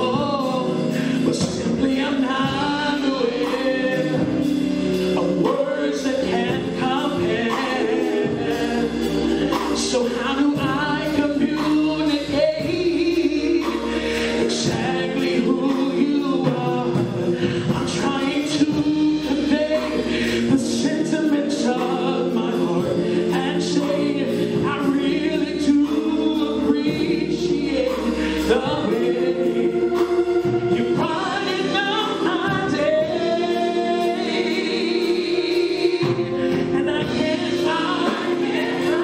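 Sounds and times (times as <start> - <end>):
man singing into a microphone: 0.0 - 39.0
musical accompaniment: 0.0 - 39.0.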